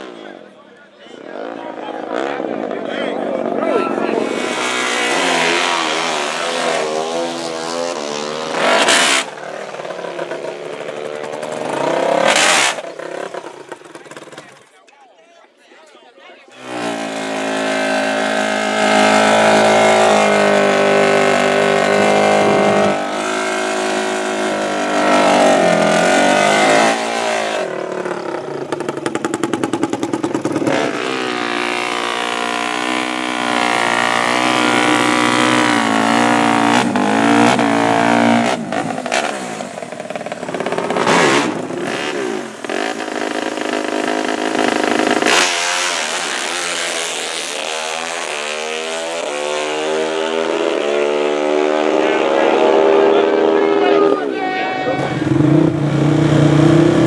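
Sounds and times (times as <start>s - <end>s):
atv engines revving: 0.0s - 14.9s, 16.5s - 57.0s.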